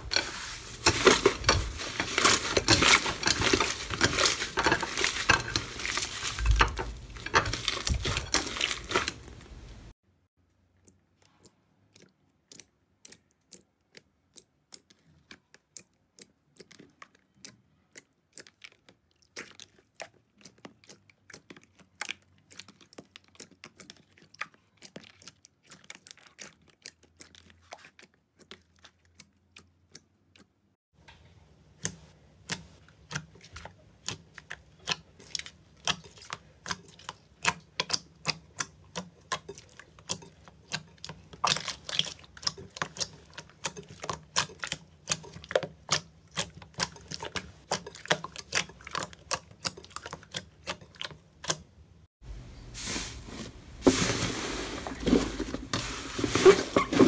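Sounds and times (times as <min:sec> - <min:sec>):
hands squishing slime: 0:00.0 - 0:09.9, 0:10.8 - 0:30.5, 0:31.6 - 0:51.7.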